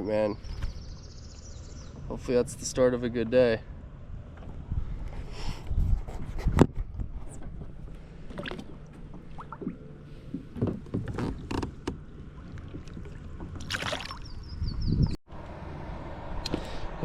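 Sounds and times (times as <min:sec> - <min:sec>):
low rumble of water or wind: 0:00.0 - 0:17.0.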